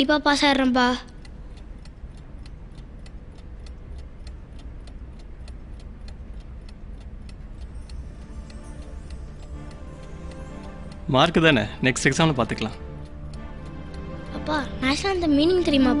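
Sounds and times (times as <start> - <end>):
clock-like ticking: 0.0 - 16.0
soft held music notes: 0.0 - 16.0
low hum: 0.7 - 16.0.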